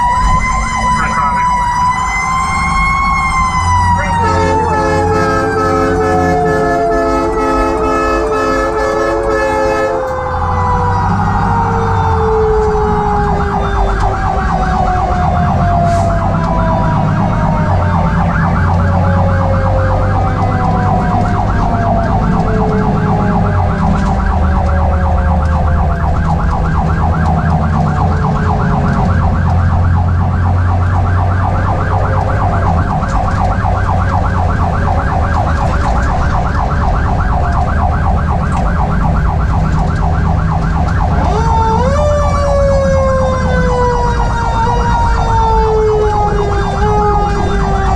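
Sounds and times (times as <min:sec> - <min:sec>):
fast-warbling siren: 0:00.0 - 0:47.9
mechanical siren wailing: 0:00.0 - 0:47.9
truck engine rumbling: 0:00.0 - 0:47.9.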